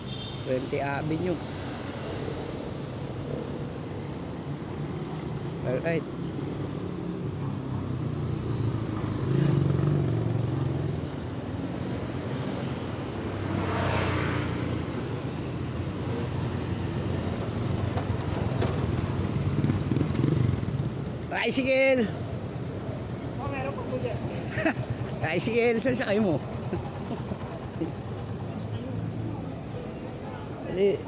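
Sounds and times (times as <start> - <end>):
motorcycle engines humming: 0.0 - 31.0
vehicles passing: 0.0 - 31.0.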